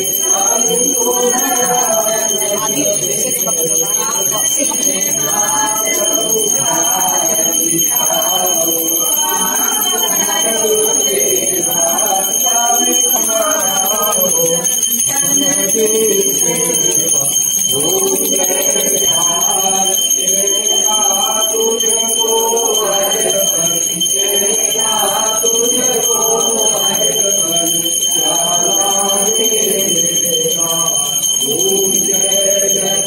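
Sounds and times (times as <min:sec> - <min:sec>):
bell ringing: 0:00.0 - 0:33.0
voices chanting: 0:00.0 - 0:33.0.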